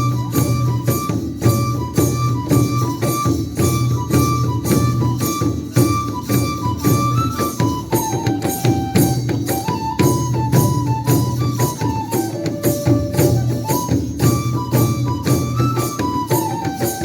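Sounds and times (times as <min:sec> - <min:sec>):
percussion beat: 0:00.0 - 0:17.0
wind instrument melody: 0:00.0 - 0:17.0.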